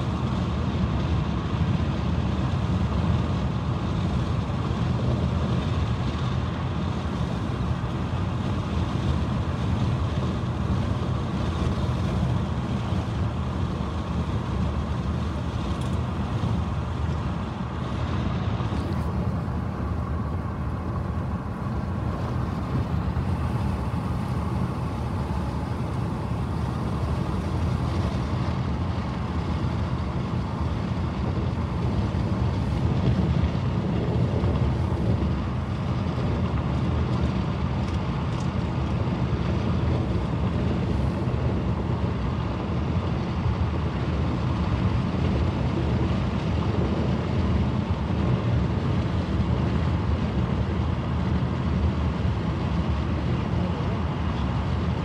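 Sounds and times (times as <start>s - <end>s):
car interior highway rumble: 0.0s - 55.0s.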